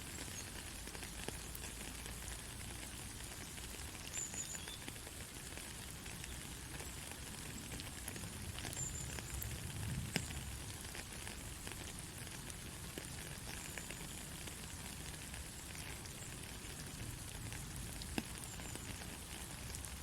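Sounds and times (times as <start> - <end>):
soft rain falling: 0.0 - 20.0.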